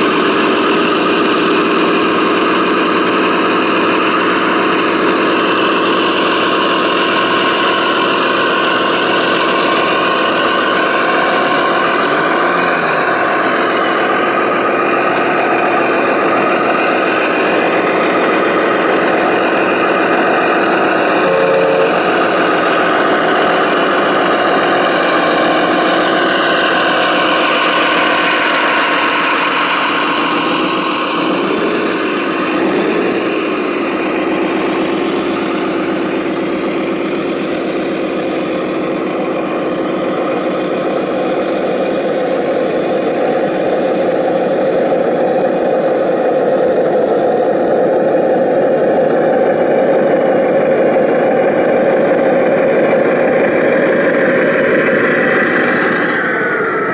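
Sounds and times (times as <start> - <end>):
model excavator motor drone: 0.0 - 56.9.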